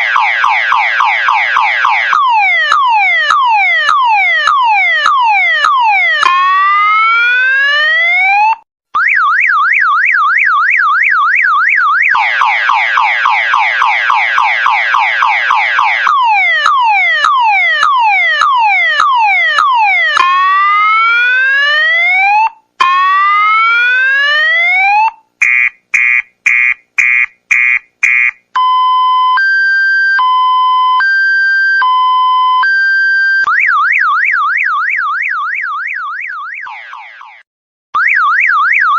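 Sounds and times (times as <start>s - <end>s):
electronic alarm siren: 0.0s - 38.9s.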